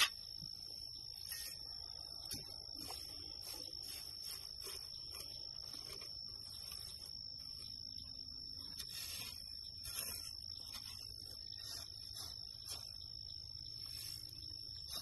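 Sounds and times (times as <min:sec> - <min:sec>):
dry grass rustling and crackling: 0:00.0 - 0:15.0
high-pitched insect trill: 0:00.0 - 0:15.0.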